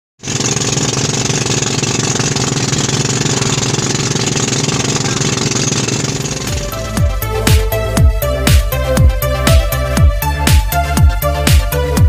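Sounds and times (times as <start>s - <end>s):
boat engine chugging: 0.2s - 12.0s.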